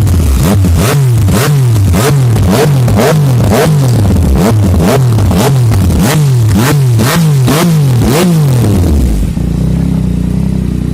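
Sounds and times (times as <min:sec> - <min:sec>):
motorcycle engine idling: 0:00.0 - 0:10.9
motorcycle engine revving: 0:00.0 - 0:10.9.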